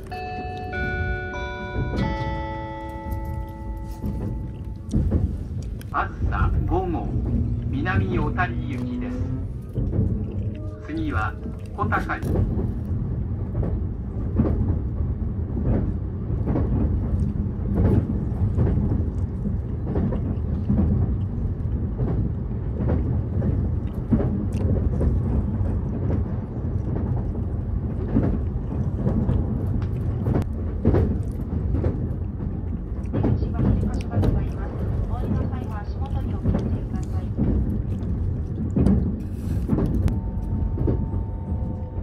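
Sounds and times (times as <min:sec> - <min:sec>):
train running low rumble: 0:00.0 - 0:42.0.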